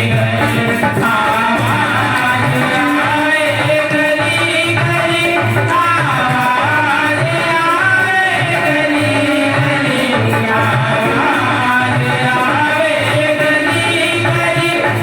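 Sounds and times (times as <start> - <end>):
hand drum rhythm: 0.0 - 15.0
ornamented devotional melody: 0.0 - 15.0.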